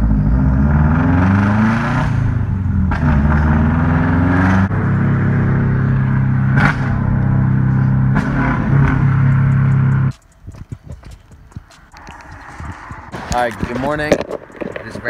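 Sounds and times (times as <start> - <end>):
car engine revving: 0.0 - 15.0
exhaust pops: 0.0 - 15.0.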